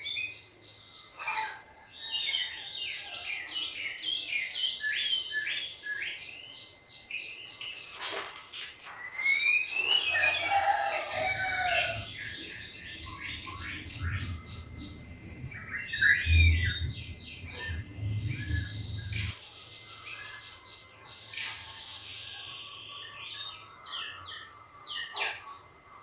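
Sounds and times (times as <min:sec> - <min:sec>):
bird singing trills and whistles: 0:00.0 - 0:08.0, 0:08.6 - 0:25.6.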